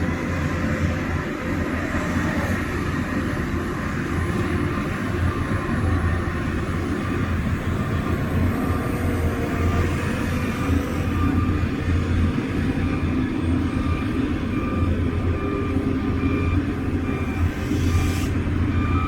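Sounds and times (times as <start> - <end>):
heavy diesel machinery rumble: 0.0 - 19.0.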